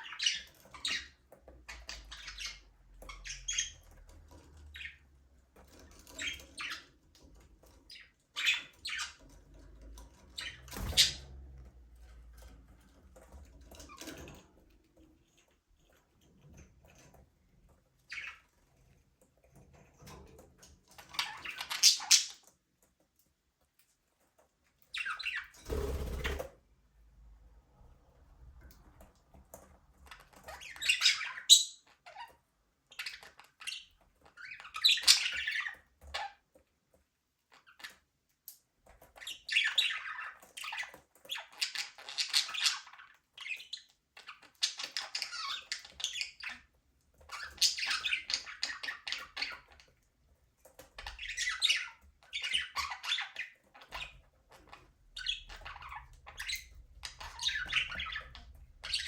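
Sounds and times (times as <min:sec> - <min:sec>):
budgerigars chirping and squawking: 0:00.0 - 0:11.4, 0:12.4 - 0:22.6, 0:24.8 - 0:26.5, 0:30.0 - 0:36.5, 0:37.5 - 0:38.1, 0:38.9 - 0:50.0, 0:50.7 - 0:59.0.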